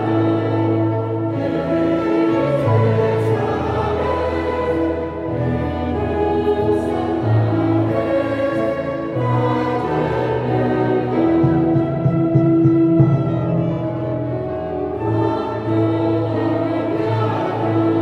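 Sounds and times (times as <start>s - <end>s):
choir singing: 0.0s - 18.0s
string orchestra: 0.0s - 18.0s.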